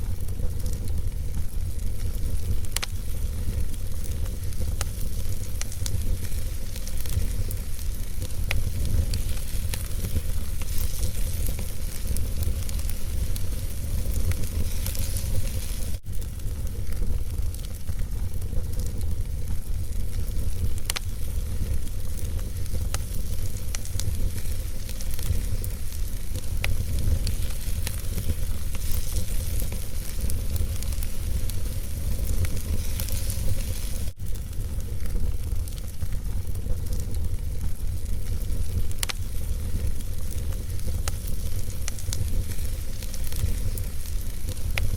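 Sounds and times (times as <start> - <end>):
fire crackling and popping: 0.0 - 44.9
fire rumbling: 0.0 - 44.9.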